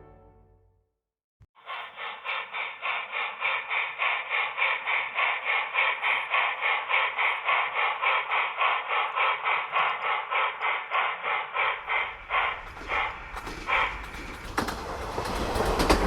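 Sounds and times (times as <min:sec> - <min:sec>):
model steam locomotive chuffing: 0:01.6 - 0:16.0.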